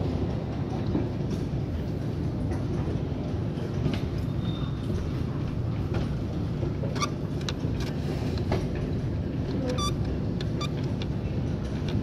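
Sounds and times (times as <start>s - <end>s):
low machinery and train rumble: 0.0s - 12.0s.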